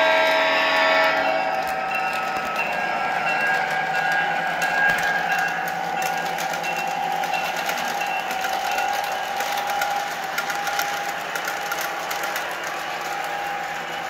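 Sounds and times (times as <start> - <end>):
model train motor hum: 0.0 - 14.0
wheels clicking on track: 0.0 - 14.0.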